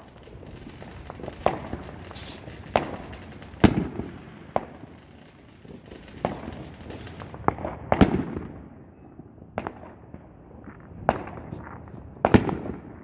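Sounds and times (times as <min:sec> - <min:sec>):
fireworks pops and crackles: 0:00.0 - 0:08.6, 0:10.6 - 0:13.0
fireworks bangs: 0:00.0 - 0:08.8, 0:09.6 - 0:13.0.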